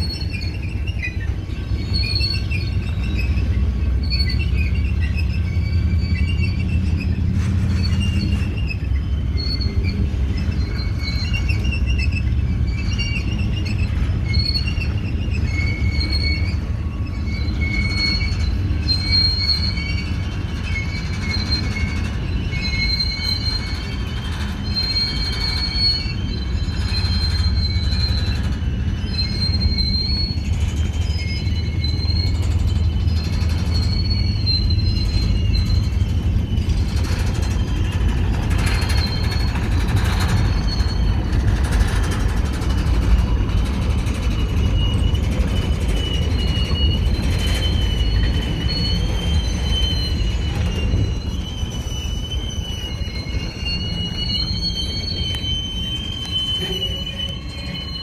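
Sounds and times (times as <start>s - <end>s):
freight train rumbling: 0.0s - 58.0s
high-pitched wheel squealing: 0.0s - 58.0s.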